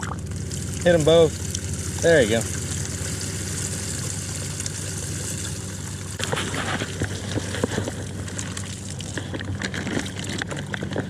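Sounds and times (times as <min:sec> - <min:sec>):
outboard engine idling: 0:00.0 - 0:11.0.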